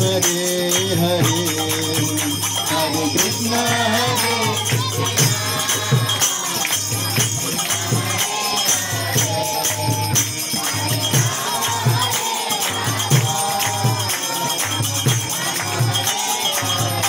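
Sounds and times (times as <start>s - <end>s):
hand cymbals clashing: 0.0s - 17.0s
man singing through a microphone: 0.0s - 17.0s.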